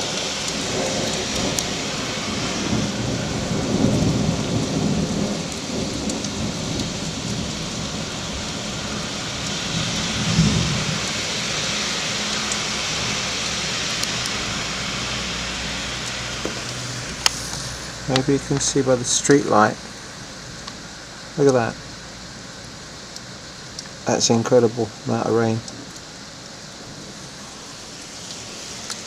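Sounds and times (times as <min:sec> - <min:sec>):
low thunder rumbles: 0:00.0 - 0:23.8
heavy rain pouring: 0:00.0 - 0:29.0.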